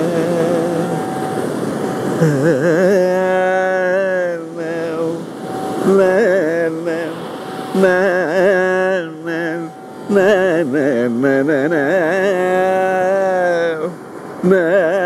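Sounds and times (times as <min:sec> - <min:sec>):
man singing: 0:00.0 - 0:01.2, 0:02.2 - 0:15.0
ocean surf rushing: 0:00.0 - 0:15.0
tambura drone: 0:00.0 - 0:15.0.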